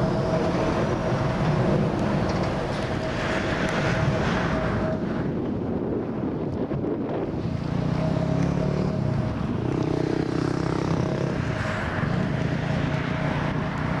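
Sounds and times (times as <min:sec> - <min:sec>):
engine drone with whine: 0:00.0 - 0:14.0.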